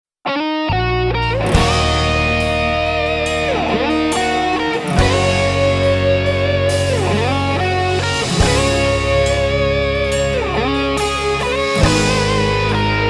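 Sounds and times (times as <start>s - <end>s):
electric guitar bent notes: 0.3s - 13.0s
steady bass line: 0.7s - 13.0s.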